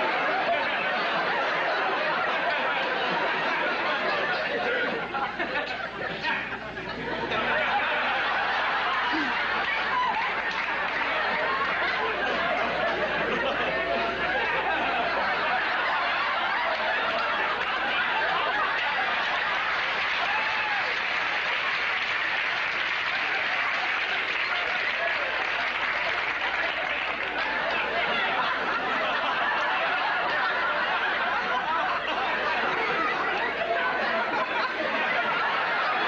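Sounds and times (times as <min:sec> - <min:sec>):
crowd laughing: 0:00.0 - 0:36.0.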